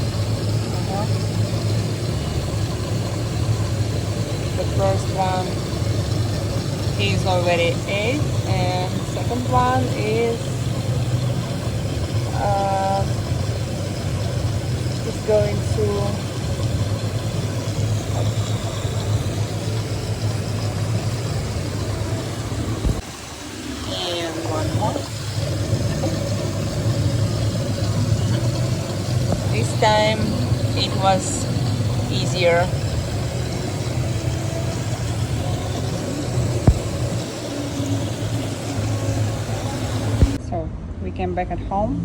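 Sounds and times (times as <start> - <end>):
low mechanical drone: 0.0 - 42.0
low motor hum: 0.0 - 42.0.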